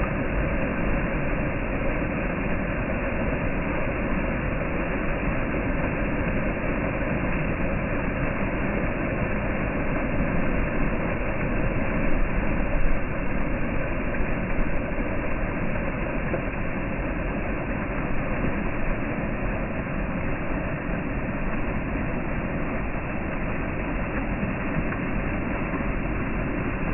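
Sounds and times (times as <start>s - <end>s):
water pouring from drain: 0.1s - 26.9s.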